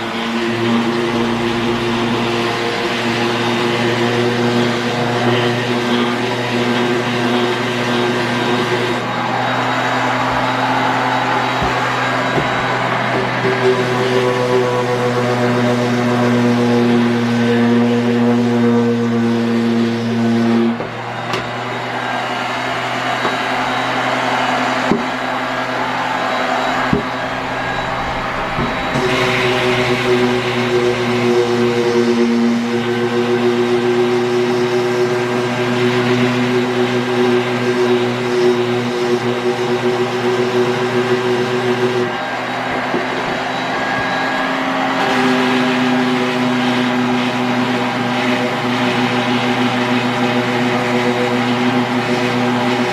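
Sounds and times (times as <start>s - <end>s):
power sander on wood: 0.0s - 52.9s.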